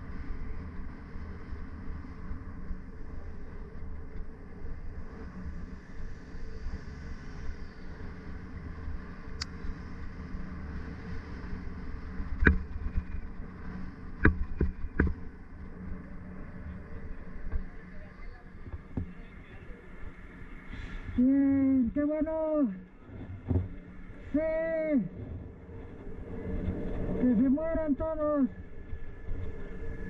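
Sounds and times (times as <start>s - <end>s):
bicycle rolling on street: 0.0s - 30.0s.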